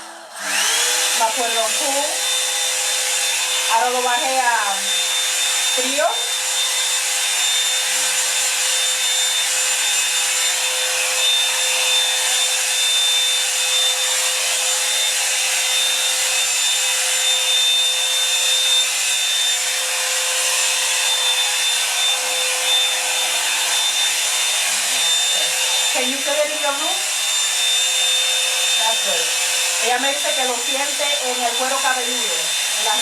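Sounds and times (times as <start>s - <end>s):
hair dryer air rushing: 0.0s - 33.0s
motor whine: 0.0s - 33.0s.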